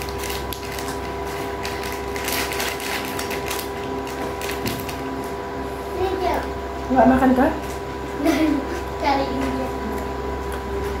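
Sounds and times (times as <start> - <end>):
small mechanism humming and clicking: 0.0 - 5.4, 6.0 - 11.0.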